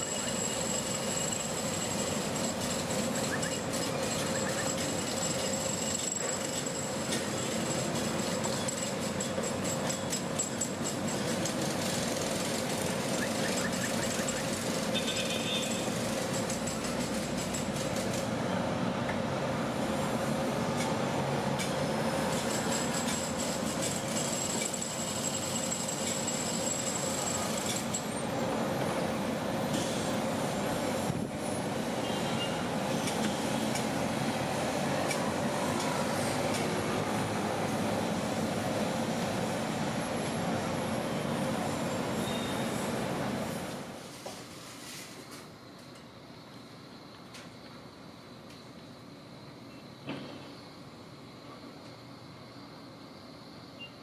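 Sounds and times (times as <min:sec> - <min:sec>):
construction machinery din: 0:00.0 - 0:44.0.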